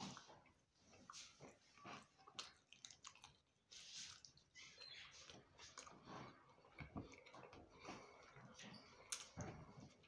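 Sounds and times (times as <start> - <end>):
wet chewing: 0.0 - 10.0.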